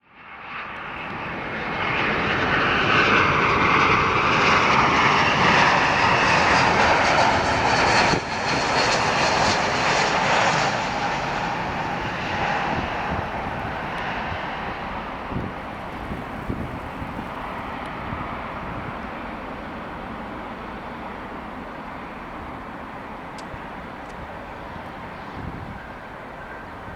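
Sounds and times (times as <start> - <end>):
jet engines roaring past: 0.0 - 26.9.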